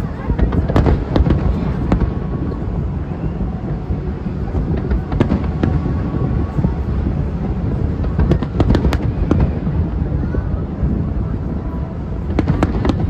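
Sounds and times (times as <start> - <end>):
distant fireworks rumbling: 0.0 - 13.0
fireworks sharp cracks: 0.0 - 13.0.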